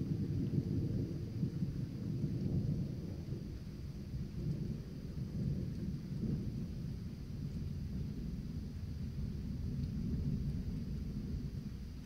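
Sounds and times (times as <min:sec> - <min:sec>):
thunder rumbling: 0:00.0 - 0:12.0.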